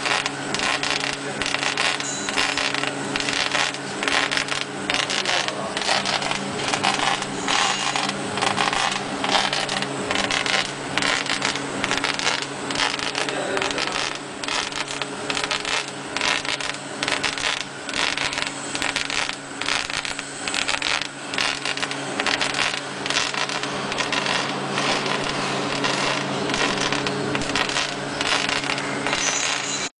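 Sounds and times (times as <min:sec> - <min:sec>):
laser engraver clicking and crackling: 0:00.0 - 0:29.9
steady low hum: 0:00.0 - 0:29.9.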